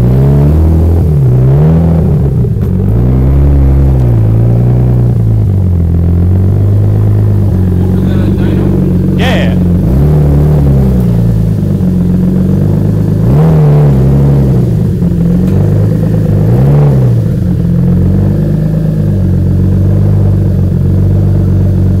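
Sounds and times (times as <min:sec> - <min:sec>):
car engine idling: 0:00.0 - 0:22.0
engine throttle blips: 0:00.0 - 0:22.0.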